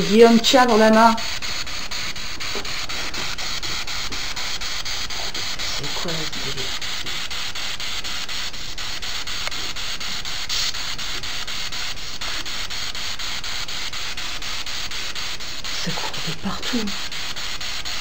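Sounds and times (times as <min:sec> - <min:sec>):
quick scan clicks: 0:00.0 - 0:18.0
radio static hiss: 0:00.0 - 0:18.0.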